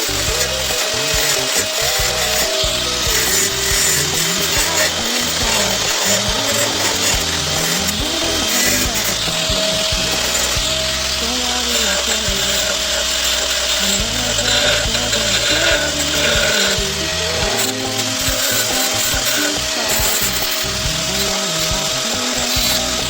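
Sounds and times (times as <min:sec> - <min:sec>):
pop music: 0:00.0 - 0:23.0
power tool running: 0:00.0 - 0:23.0.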